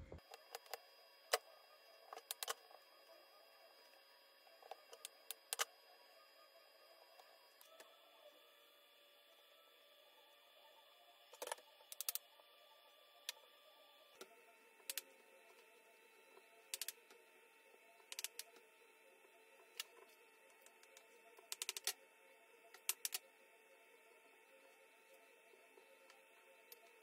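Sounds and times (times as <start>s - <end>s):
faint room hum: 0.0s - 27.0s.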